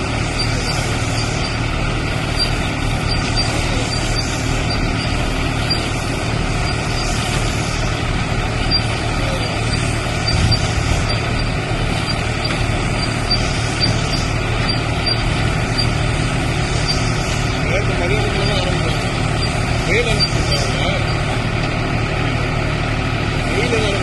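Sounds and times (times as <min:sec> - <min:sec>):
baler engine drone: 0:00.0 - 0:24.0
high regular ticking: 0:00.0 - 0:24.0.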